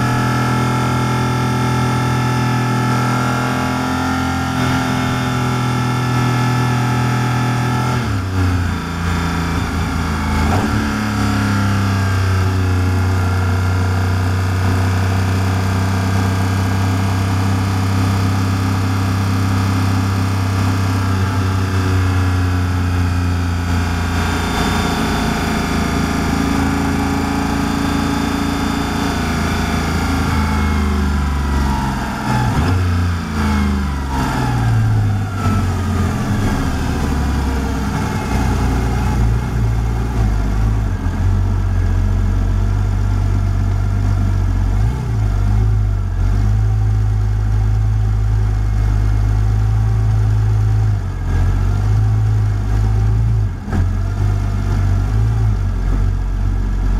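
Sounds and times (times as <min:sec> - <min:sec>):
car engine from inside cabin: 0:00.0 - 0:56.9.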